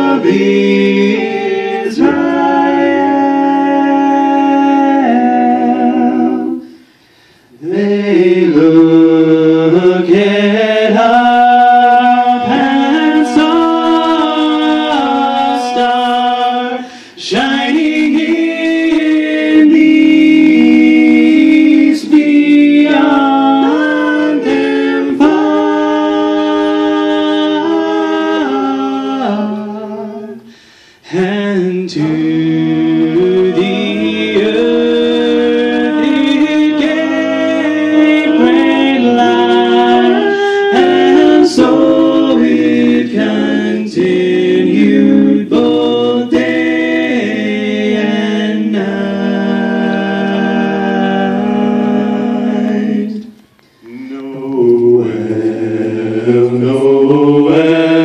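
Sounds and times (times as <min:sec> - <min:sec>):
male quartet singing in harmony: 0:00.0 - 0:58.0.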